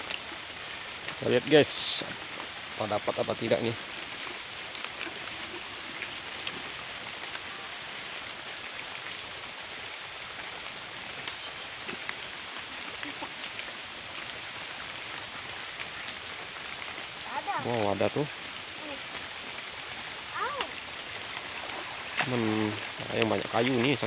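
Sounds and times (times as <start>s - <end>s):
light rain on a river: 0.0s - 24.0s.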